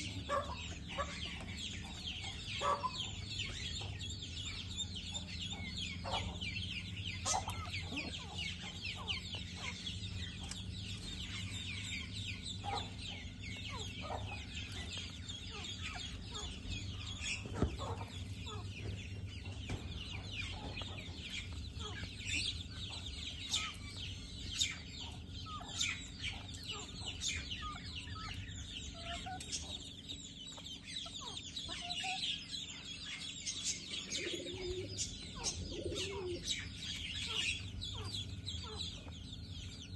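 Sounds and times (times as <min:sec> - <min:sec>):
parakeets chattering: 0:00.0 - 0:39.9
steady low hum: 0:00.0 - 0:39.9.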